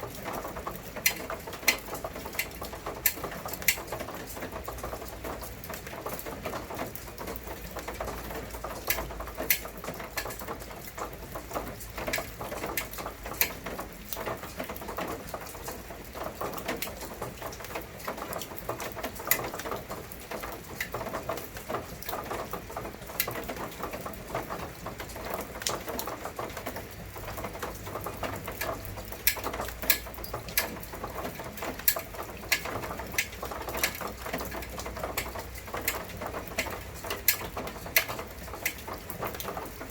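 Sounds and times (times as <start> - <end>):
loud close raindrops: 0.0 - 39.9
rain pattering: 0.0 - 39.9.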